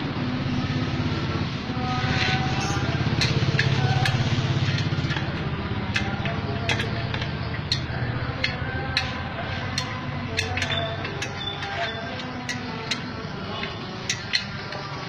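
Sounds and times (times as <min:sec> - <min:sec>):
motorcycle engine running: 0:00.0 - 0:15.0
sharp ticks: 0:02.6 - 0:14.9.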